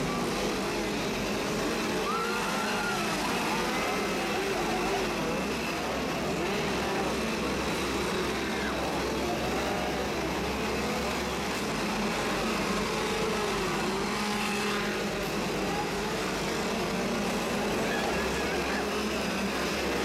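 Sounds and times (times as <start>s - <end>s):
chainsaw engines revving: 0.0s - 20.0s.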